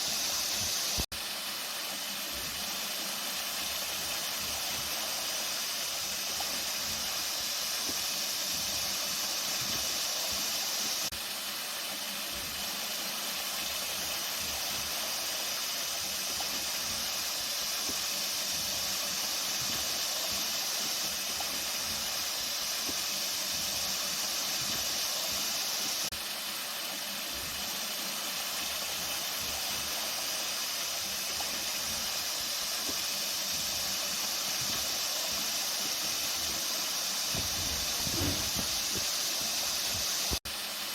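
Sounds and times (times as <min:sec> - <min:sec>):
water flowing steadily: 0:00.0 - 0:40.9.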